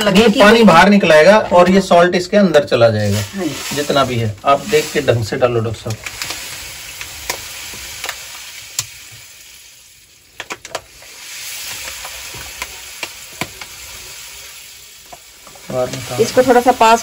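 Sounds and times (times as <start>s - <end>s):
salt pouring from plastic pouch: 2.9s - 17.0s.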